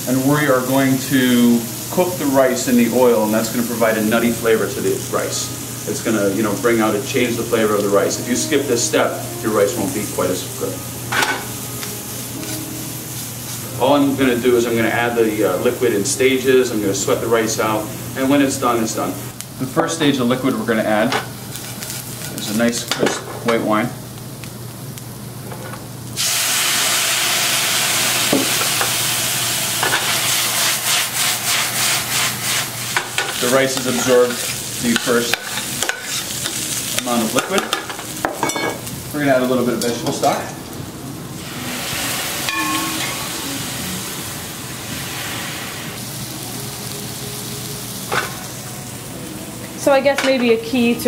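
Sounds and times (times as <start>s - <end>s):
wine sizzling in hot pan: 0.0s - 51.0s.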